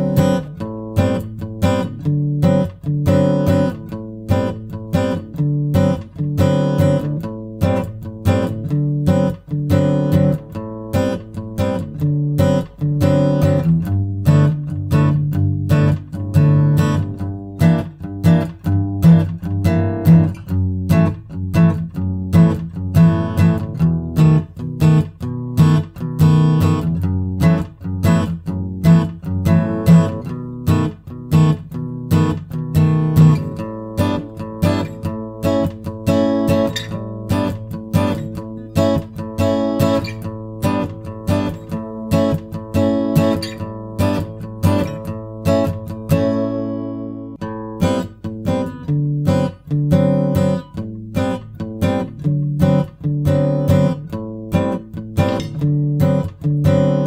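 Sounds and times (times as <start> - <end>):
acoustic guitar: 0.0 - 57.0.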